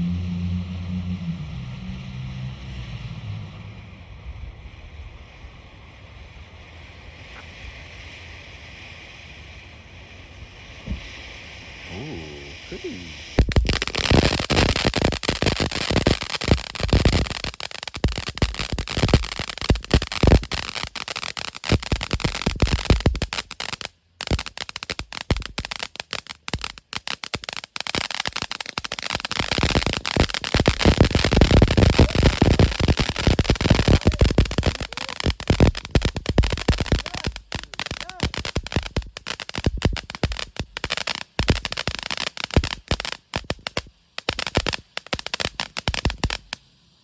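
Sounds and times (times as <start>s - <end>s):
firework fountain crackling: 1.3s - 47.0s.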